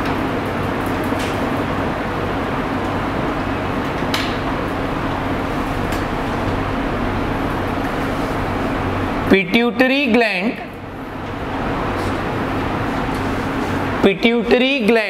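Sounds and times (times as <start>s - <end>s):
fan hiss and hum: 0.0s - 15.0s.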